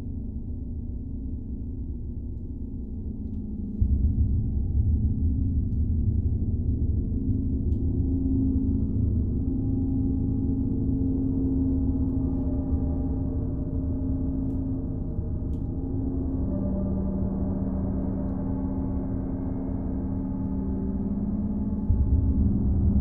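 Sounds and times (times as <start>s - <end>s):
deep rumble: 3.2s - 23.0s.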